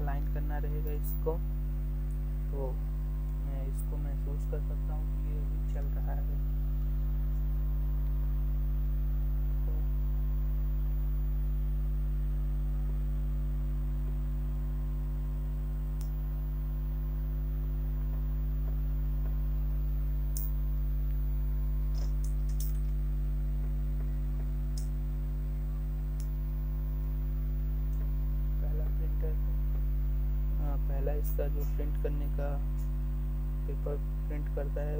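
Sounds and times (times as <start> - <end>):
printer electrical hum: 0.0 - 34.9.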